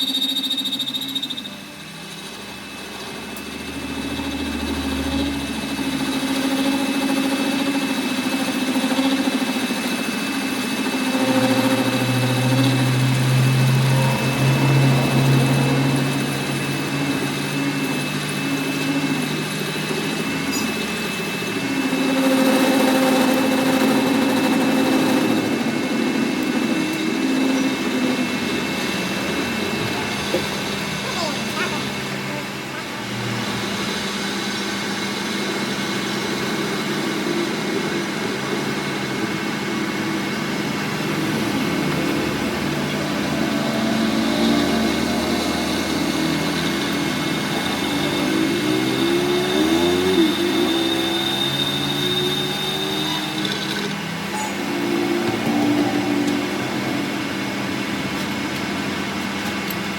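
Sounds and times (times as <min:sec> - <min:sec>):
machine motor humming: 0:00.0 - 0:59.9.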